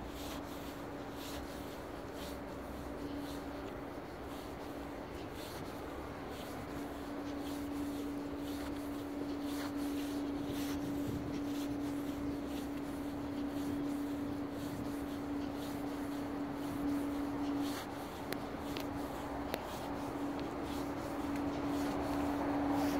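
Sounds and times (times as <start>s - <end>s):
steady hum: 0.0s - 22.9s
footsteps on asphalt: 0.1s - 22.9s.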